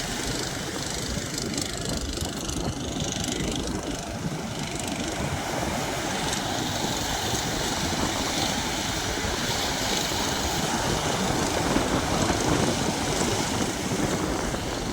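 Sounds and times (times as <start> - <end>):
boat engine rumbling: 0.0 - 14.9.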